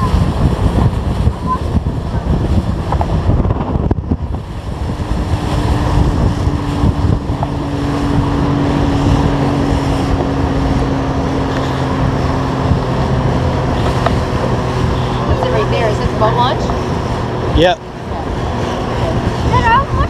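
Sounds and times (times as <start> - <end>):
outboard motor running: 0.0 - 20.0
water rushing past hull: 0.0 - 20.0
wind buffeting microphone: 0.0 - 20.0.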